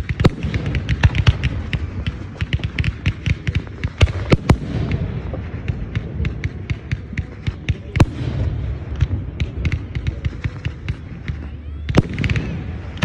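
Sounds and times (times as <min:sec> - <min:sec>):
fireworks crackling pops: 0:00.0 - 0:13.0
loud fireworks bangs: 0:00.0 - 0:13.0.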